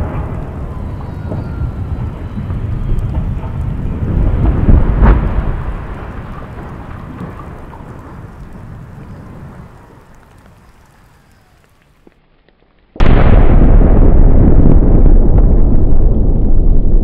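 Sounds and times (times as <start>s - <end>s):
deep rumble of collapsing viaduct: 0.0s - 12.1s, 13.0s - 17.0s
sharp crack: 0.0s - 17.0s.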